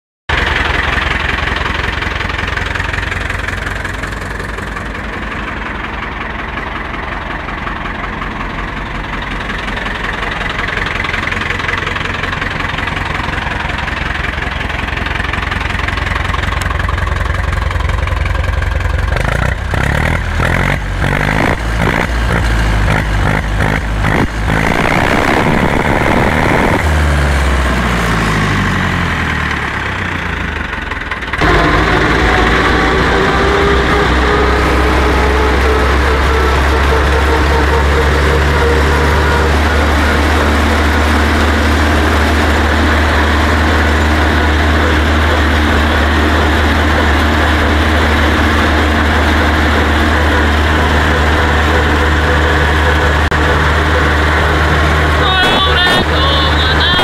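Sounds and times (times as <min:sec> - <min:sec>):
diesel tractor engine idling: 0:00.3 - 0:57.0.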